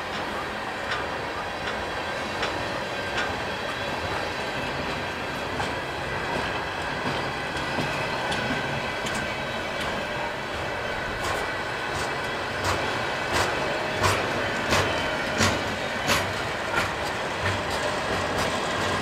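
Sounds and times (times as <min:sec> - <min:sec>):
train rumble: 0:00.0 - 0:19.0
train wheels clicking: 0:00.0 - 0:19.0.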